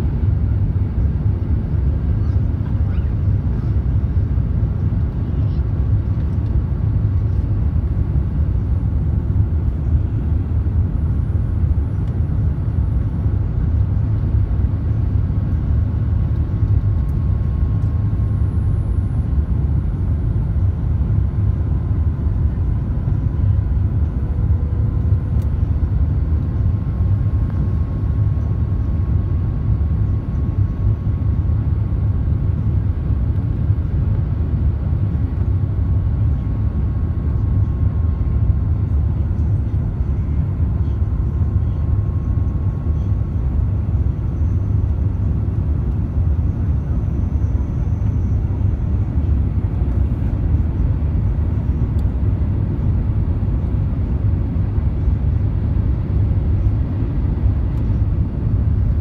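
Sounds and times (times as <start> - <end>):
airliner cabin engine rumble: 0.0 - 59.0
faint steady whine: 0.0 - 59.0.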